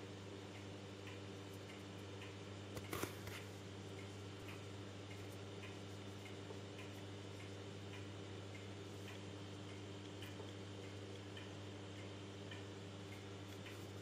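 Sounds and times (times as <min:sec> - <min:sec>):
aquarium equipment hum: 0:00.0 - 0:14.0
faint ticks: 0:00.5 - 0:14.0.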